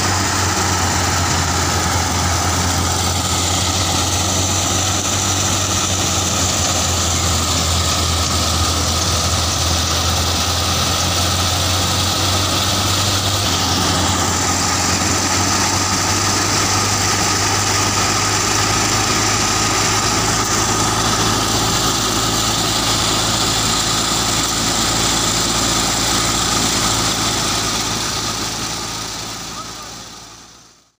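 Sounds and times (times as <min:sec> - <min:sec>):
thresher high whine: 0:00.0 - 0:30.5
tractor and thresher drone: 0:00.0 - 0:30.9.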